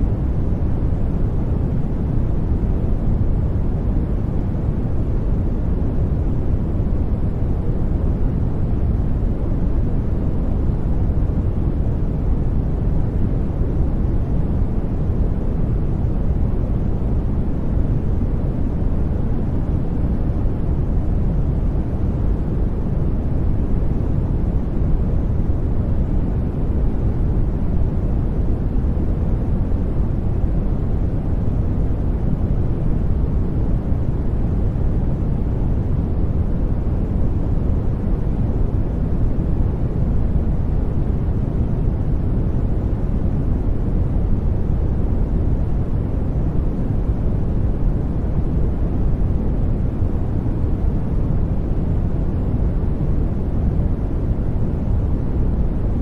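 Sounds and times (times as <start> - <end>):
deep white noise rush: 0.0 - 56.0.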